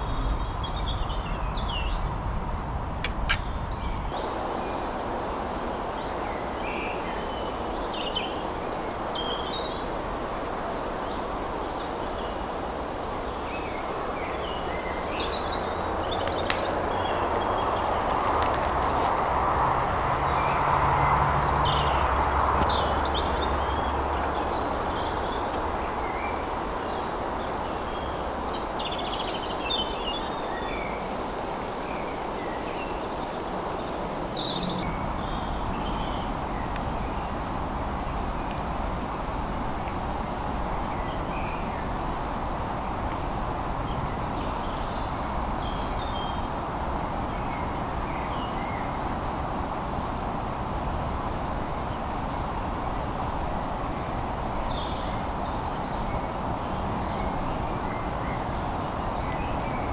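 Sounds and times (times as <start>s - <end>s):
small birds chirping: 0.1s - 50.0s, 51.3s - 53.1s, 53.8s - 59.9s
steady background hiss: 4.1s - 59.9s.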